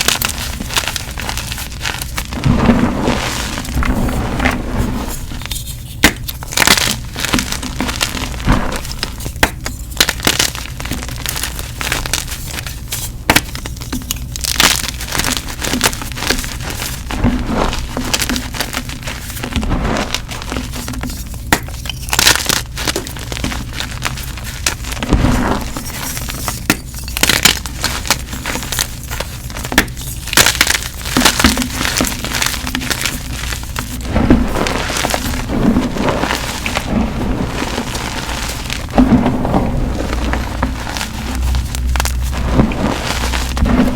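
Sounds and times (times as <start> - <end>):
chalk crunching and crumbling: 0.0 - 43.9.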